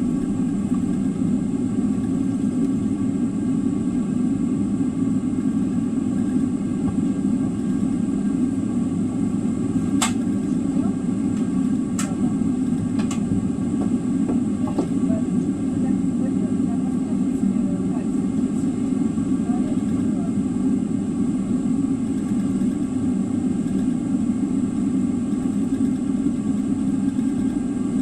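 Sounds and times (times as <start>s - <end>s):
aircraft cabin rumble: 0.0s - 28.0s.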